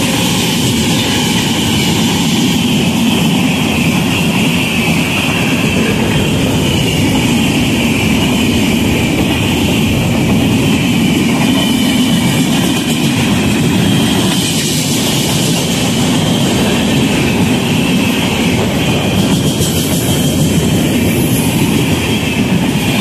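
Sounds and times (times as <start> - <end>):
train wheels rushing on rail: 0.0 - 23.0.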